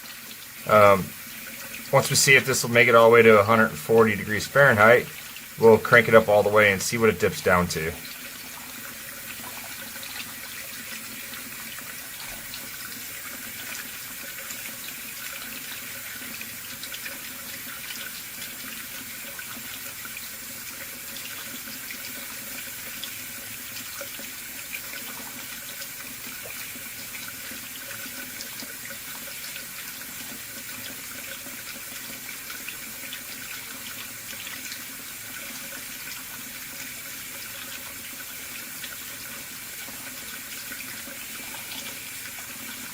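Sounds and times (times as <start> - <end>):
faucet running into sink: 0.0 - 42.9.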